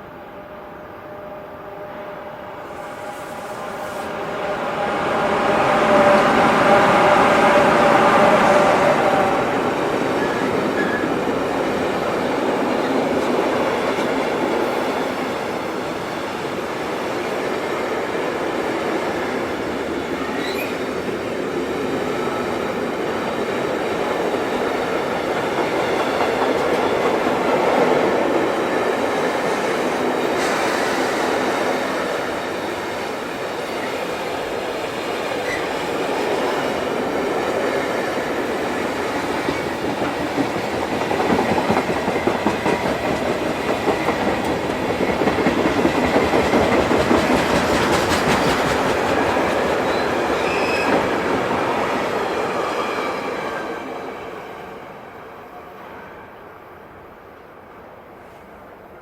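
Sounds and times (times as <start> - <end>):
train wheels on rails: 0.0 - 56.2.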